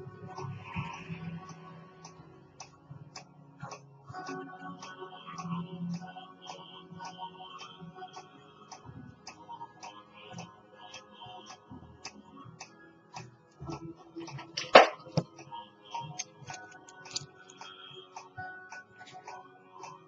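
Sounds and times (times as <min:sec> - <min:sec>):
clock ticking: 0:00.0 - 0:20.0
soft background music: 0:00.0 - 0:20.0.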